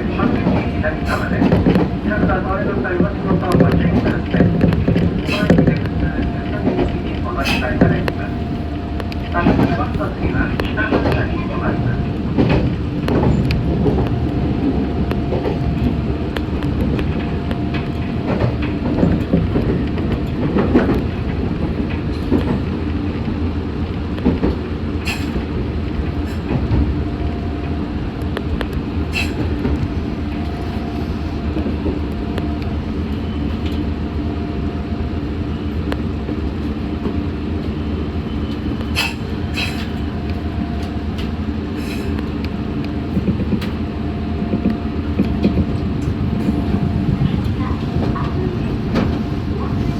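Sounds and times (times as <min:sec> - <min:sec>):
train hum: 0:00.0 - 0:49.9
train wheels rumbling on rail: 0:00.0 - 0:49.9.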